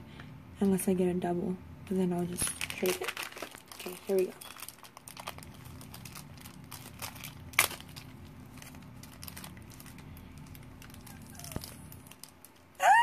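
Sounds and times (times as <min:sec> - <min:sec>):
foil pouch crinkling: 0:02.3 - 0:12.8.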